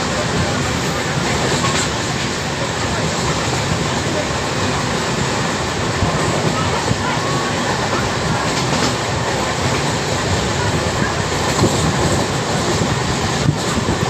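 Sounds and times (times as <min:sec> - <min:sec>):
rail joint clacks: 0:00.0 - 0:14.0
train wheels rumbling on track: 0:00.0 - 0:14.0.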